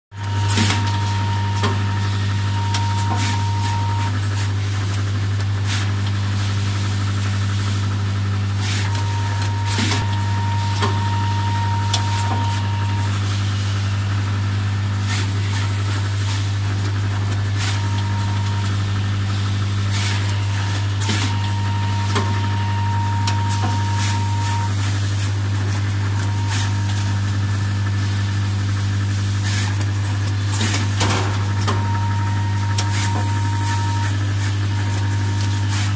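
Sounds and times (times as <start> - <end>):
machinery humming: 0.1 - 35.9.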